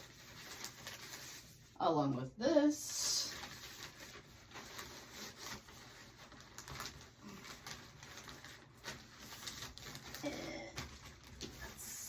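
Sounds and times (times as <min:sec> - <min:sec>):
packing materials rustling: 0:00.0 - 0:01.8, 0:03.0 - 0:12.0.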